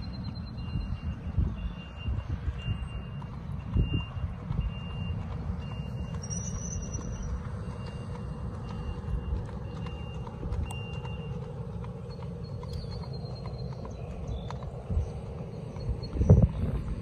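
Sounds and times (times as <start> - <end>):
reversing alarm beeping: 0.0 - 14.1.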